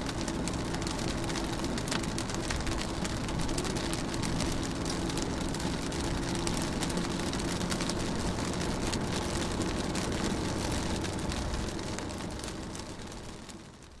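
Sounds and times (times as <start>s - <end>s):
rain on a car window: 0.0s - 14.0s.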